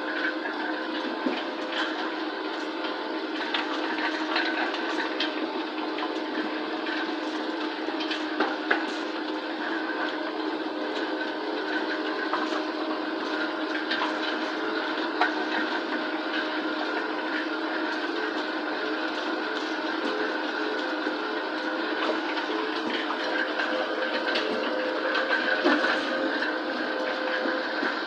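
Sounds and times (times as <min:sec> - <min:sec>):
farm machine humming: 0:00.0 - 0:28.0.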